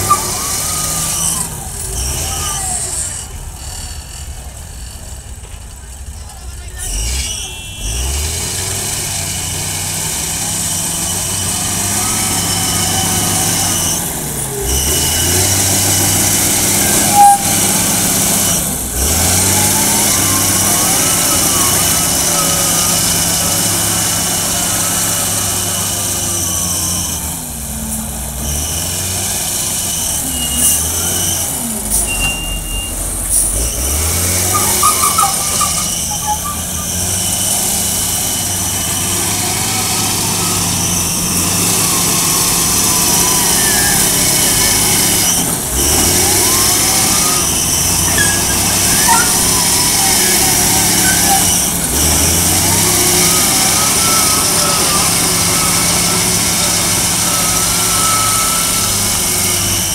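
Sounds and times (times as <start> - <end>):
wheel loader diesel engine: 0.0 - 59.9.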